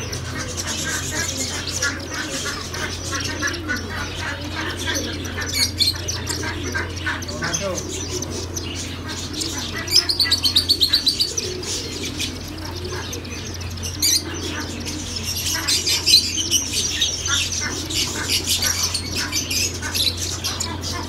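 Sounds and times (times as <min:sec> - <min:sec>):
birds chirping: 0:00.0 - 0:21.0
low steady hum: 0:00.0 - 0:21.0.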